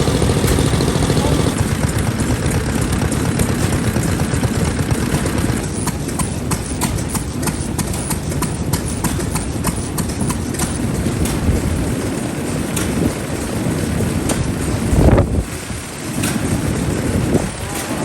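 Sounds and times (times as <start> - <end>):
stationary engine rumbling: 0.0 - 18.0.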